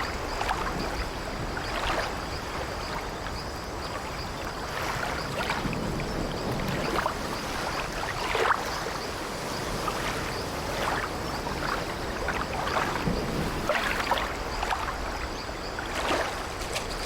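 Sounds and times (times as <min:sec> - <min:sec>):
sea water washing against hull: 0:00.0 - 0:17.0.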